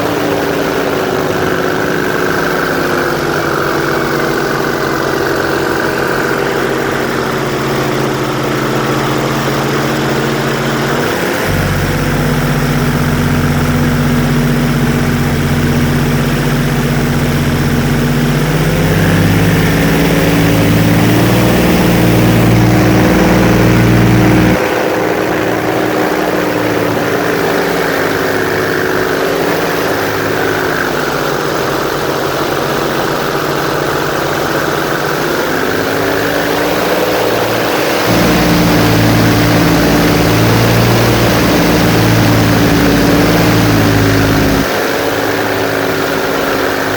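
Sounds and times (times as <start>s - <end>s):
airboat engine and propeller: 0.0s - 46.9s.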